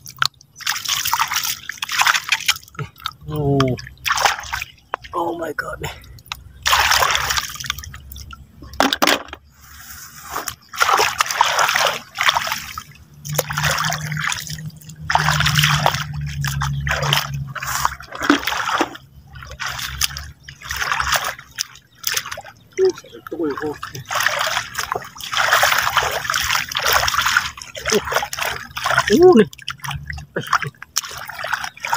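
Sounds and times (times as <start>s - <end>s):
shallow water splashing: 0.0s - 31.9s.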